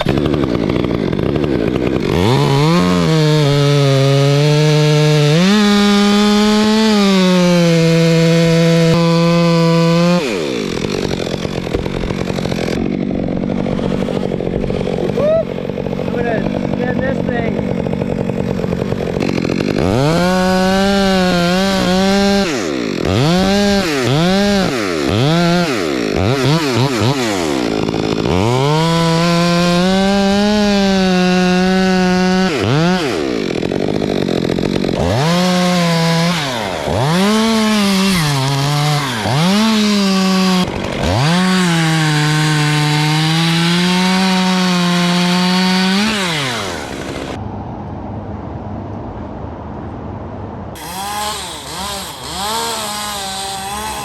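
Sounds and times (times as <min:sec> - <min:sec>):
chainsaw revving and cutting wood: 0:00.0 - 0:47.4, 0:50.8 - 0:54.0.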